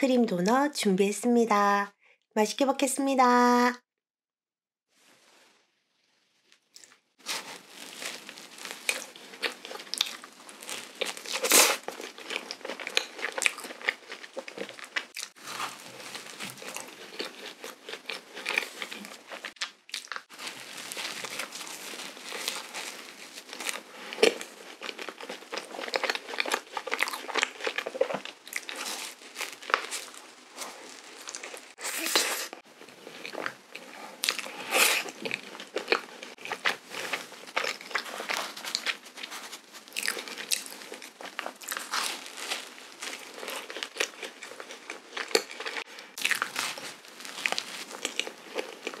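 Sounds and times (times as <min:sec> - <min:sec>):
biting and chewing donut: 0:06.8 - 0:49.0.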